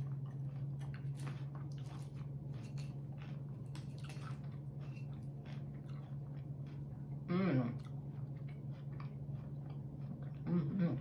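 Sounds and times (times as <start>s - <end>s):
person chewing crunchy salad: 0.0s - 11.0s
steady low hum: 0.0s - 11.0s.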